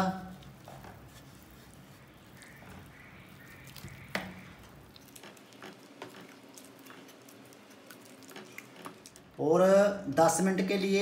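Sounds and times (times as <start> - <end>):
spoon stirring thick gravy: 0.3 - 9.3.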